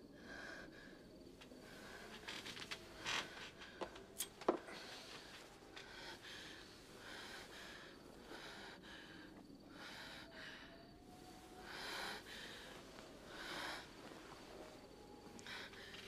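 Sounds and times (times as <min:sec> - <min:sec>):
woman breathing: 0:00.0 - 0:16.0.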